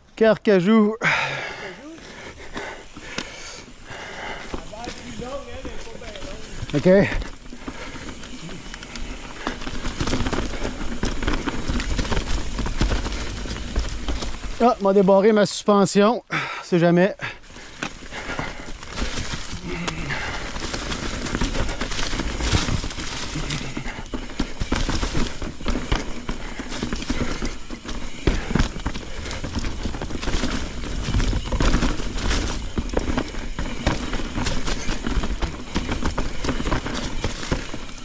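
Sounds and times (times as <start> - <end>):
bike tyres rolling over leaves and dirt: 0.0 - 38.0
bike rattling over roots: 1.0 - 38.0.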